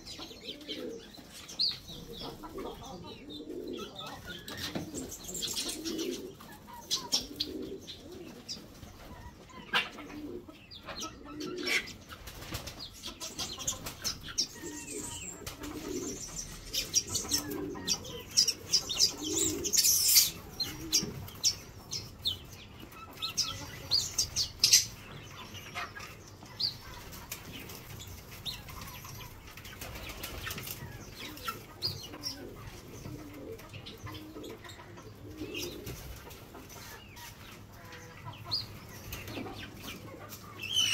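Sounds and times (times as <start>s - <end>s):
birds chirping: 0.0s - 40.9s
pigeons cooing: 0.0s - 40.9s.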